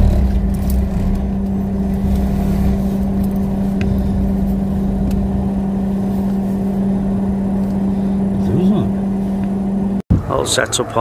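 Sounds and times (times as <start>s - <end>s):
motorhome engine running: 0.0s - 10.0s.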